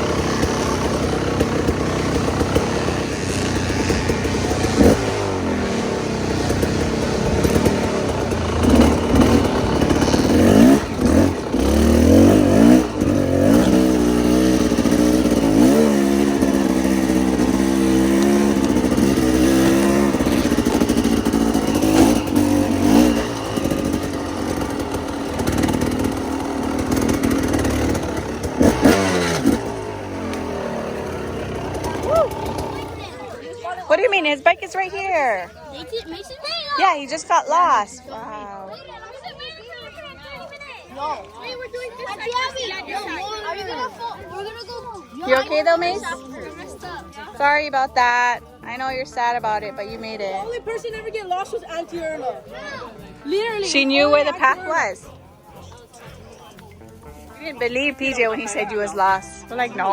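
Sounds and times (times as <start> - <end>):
dirt bike engine revving: 0.0 - 35.9, 36.7 - 38.4, 40.8 - 59.9.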